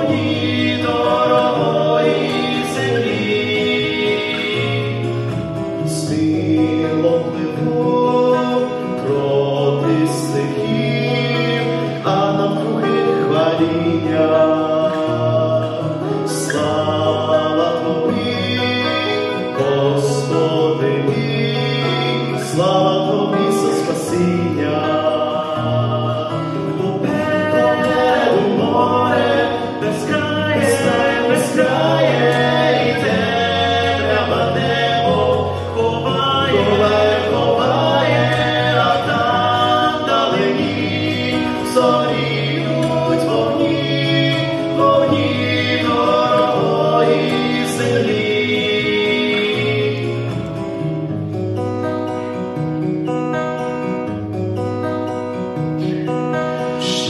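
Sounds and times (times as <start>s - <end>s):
two men singing a duet: 0.0s - 50.8s, 56.7s - 57.0s
instrumental backing music: 0.0s - 57.0s.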